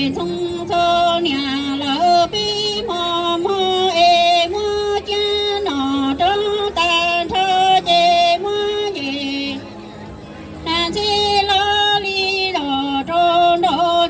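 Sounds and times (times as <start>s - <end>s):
woman singing into a microphone: 0.0s - 9.8s, 10.6s - 14.0s.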